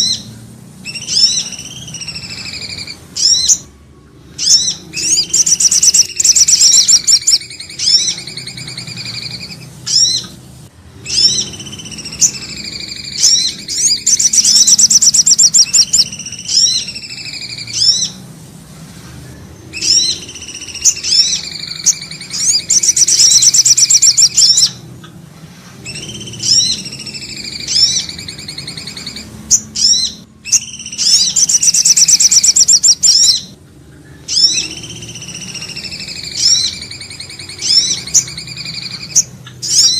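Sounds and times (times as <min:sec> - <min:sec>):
songbird trills and whistles: 0:00.0 - 0:10.4, 0:11.0 - 0:18.3, 0:19.2 - 0:24.9, 0:25.8 - 0:39.9.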